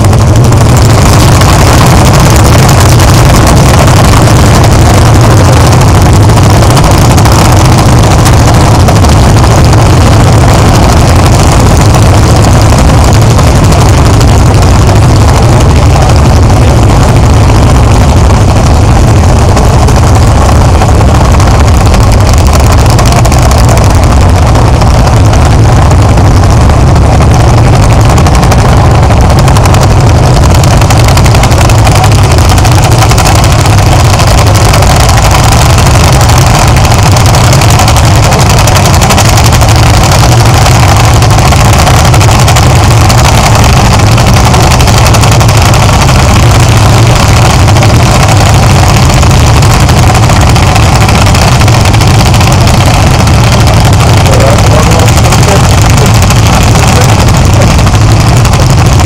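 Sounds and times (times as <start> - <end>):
tractor engines running hard: 0.0 - 59.0.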